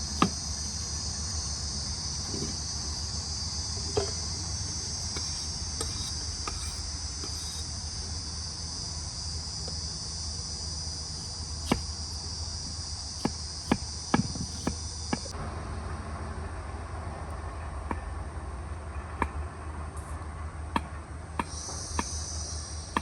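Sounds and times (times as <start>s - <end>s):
crickets chirring: 0.0s - 18.7s, 21.2s - 23.0s.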